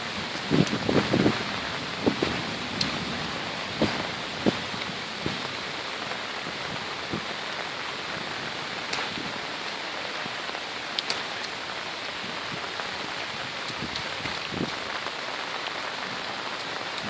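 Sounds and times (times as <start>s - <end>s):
steady rain falling: 0.0s - 17.0s
single raindrops ticking: 0.3s - 17.0s.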